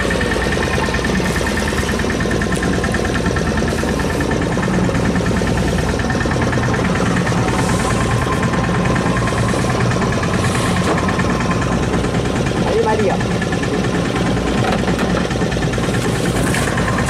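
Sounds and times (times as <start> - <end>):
boat engine idling with knock: 0.0 - 17.0.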